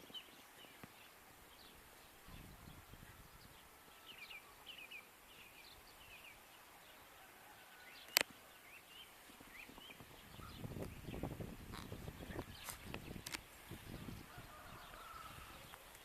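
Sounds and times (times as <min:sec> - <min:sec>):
light wind hiss: 0:00.0 - 0:16.0
small birds chirping: 0:00.0 - 0:16.0.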